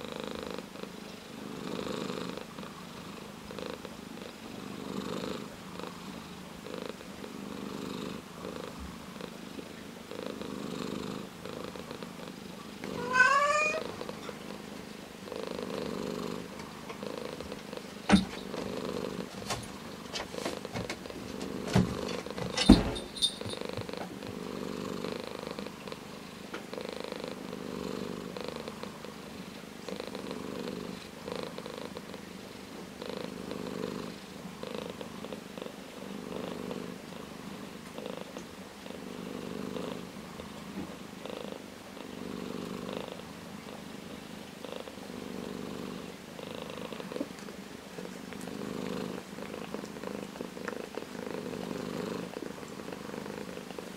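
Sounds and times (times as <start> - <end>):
cat purring: 0.0 - 53.9.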